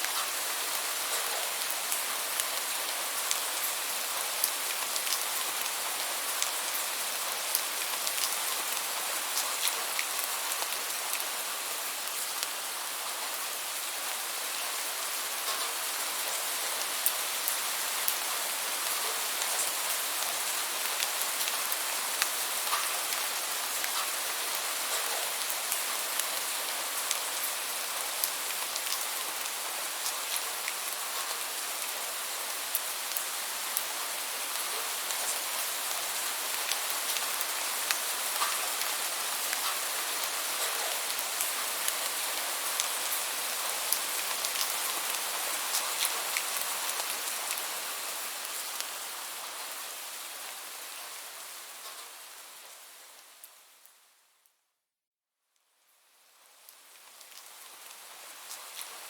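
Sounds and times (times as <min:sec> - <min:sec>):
raindrops ticking on a surface: 0:00.0 - 0:12.6, 0:15.4 - 0:49.7, 0:55.6 - 0:59.0
rain hiss: 0:00.0 - 0:54.2, 0:55.9 - 0:59.0.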